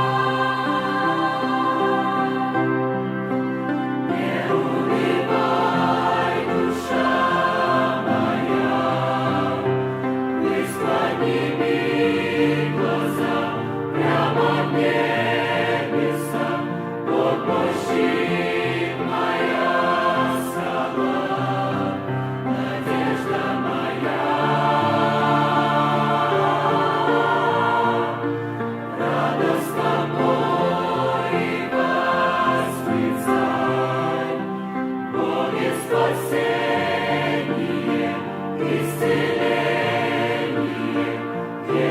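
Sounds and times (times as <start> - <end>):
choir singing a hymn: 0.0 - 41.9.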